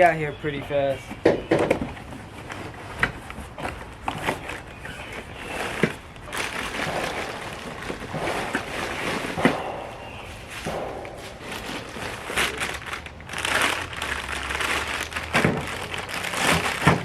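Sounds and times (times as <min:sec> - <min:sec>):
packaging rustling and crinkling: 0:02.3 - 0:17.0.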